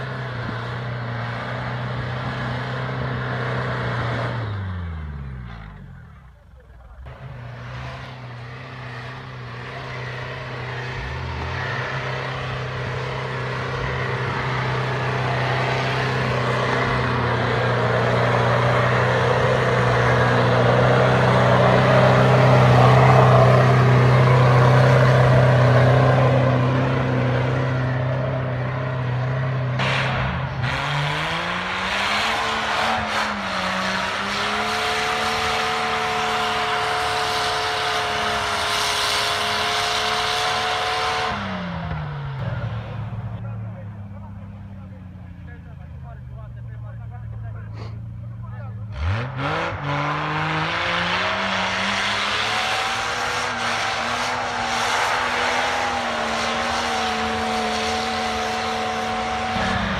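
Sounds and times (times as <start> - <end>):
engine at high revs: 0.0 - 43.6, 46.5 - 59.9
car engine revving: 0.0 - 59.9.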